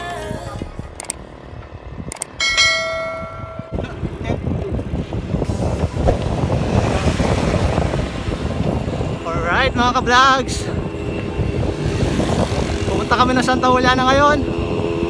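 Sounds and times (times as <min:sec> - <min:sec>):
bicycle road noise: 0:00.0 - 0:15.0
wind buffeting microphone: 0:00.3 - 0:15.0.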